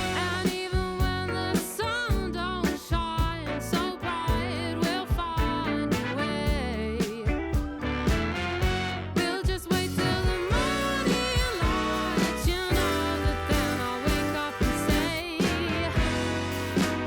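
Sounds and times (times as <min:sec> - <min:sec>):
song with vocals and drum beat: 0:00.0 - 0:17.0.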